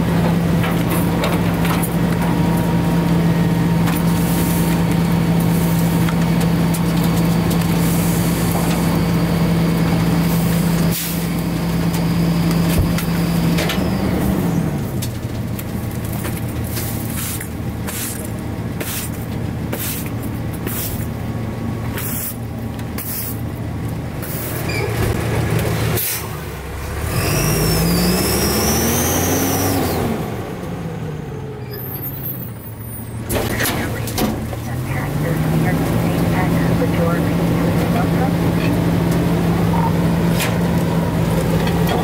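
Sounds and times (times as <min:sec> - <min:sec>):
garbage truck engine running: 0:00.0 - 0:42.0.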